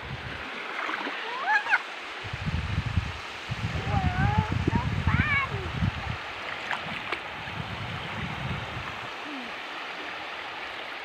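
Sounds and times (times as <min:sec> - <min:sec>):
small waves washing onto beach: 0:00.0 - 0:11.0.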